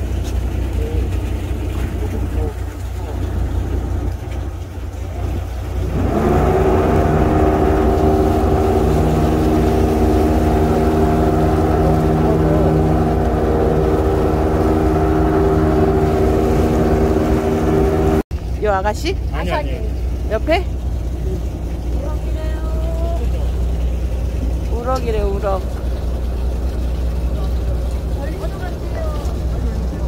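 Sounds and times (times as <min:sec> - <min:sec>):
boat engine rumbling: 0:00.0 - 0:30.0.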